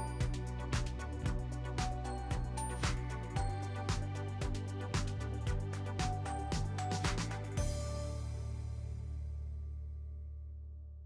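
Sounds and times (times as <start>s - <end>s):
background music with steady beat: 0.0s - 9.6s.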